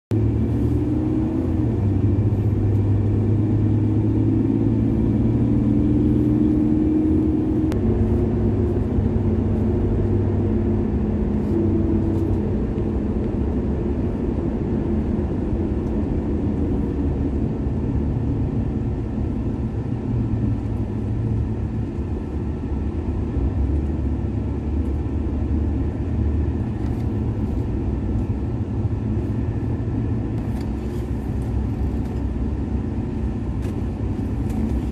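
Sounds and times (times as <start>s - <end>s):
car engine and tyre rumble: 0.1s - 34.9s.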